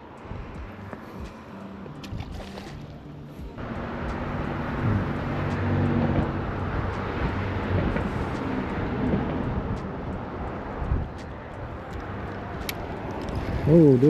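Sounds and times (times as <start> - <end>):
passing engine rumble: 0.0 - 14.0.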